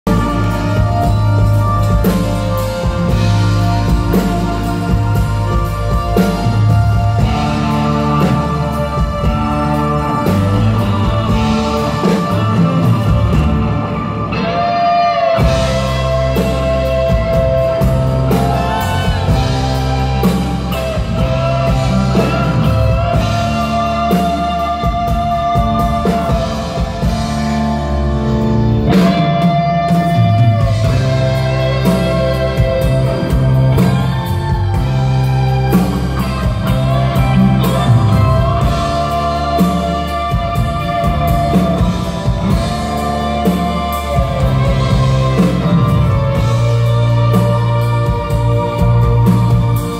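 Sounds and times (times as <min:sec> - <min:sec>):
bass and drums: 0:00.0 - 0:49.9
electric guitars: 0:00.0 - 0:49.9.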